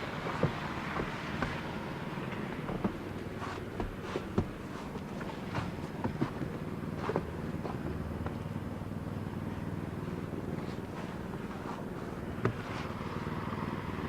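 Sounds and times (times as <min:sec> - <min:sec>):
snow crunching: 0:00.0 - 0:08.4, 0:09.8 - 0:13.2.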